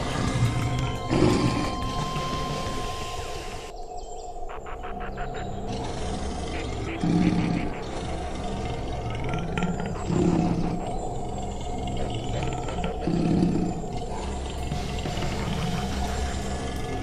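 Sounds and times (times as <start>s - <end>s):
lion roaring: 0.0s - 3.6s, 5.7s - 17.0s.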